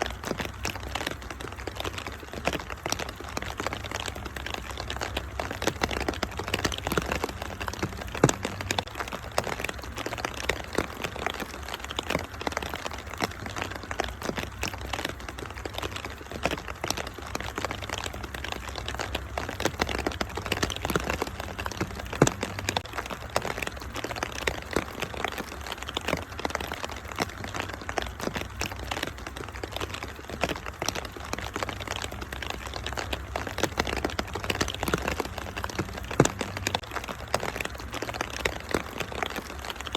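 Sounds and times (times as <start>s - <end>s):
rain hiss: 0.0s - 39.9s
wood fire crackling and popping: 0.0s - 39.9s.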